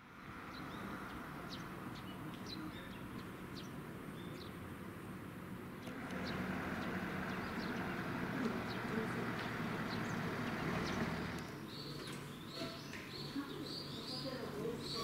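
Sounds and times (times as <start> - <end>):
small birds chirping: 0.1 - 15.0.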